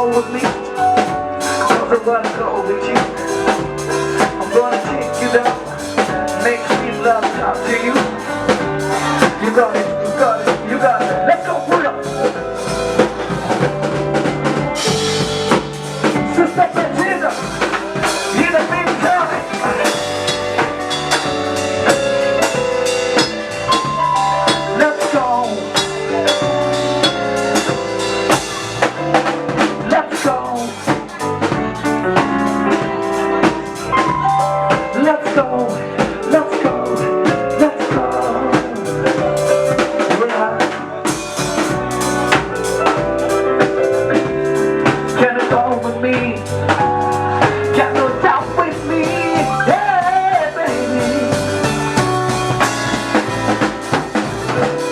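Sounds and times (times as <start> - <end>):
drum kit beat with rimshots: 0.0 - 54.9
instrumental band music: 0.0 - 54.9.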